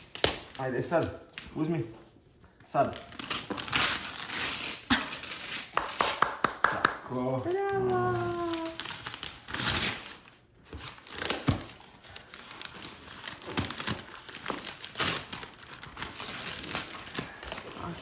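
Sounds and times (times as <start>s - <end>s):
wrapping paper tearing and crinkling: 0.0s - 0.9s, 3.0s - 6.3s, 7.5s - 18.0s.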